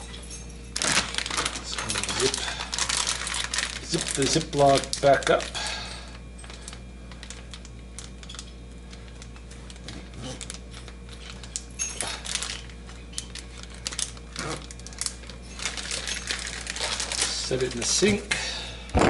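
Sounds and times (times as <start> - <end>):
steady low hum: 0.0 - 19.0
plastic bag clicks and crinkles: 0.3 - 19.0.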